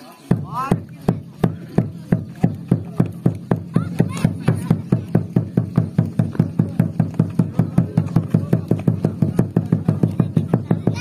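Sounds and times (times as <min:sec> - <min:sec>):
drum beaten fast: 0:00.2 - 0:11.0.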